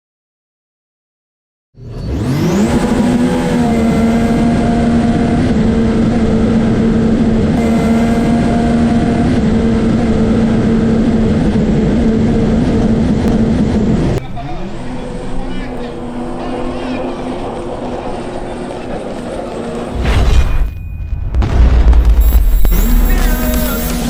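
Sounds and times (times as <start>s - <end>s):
jet ski engine revving: 1.8s - 20.1s, 22.2s - 24.0s.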